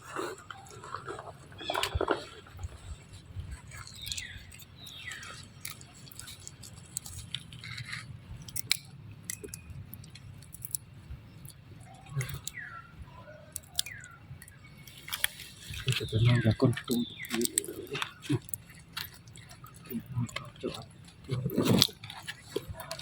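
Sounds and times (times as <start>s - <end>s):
monkey chewing and smacking: 0.0s - 12.8s, 13.4s - 23.0s.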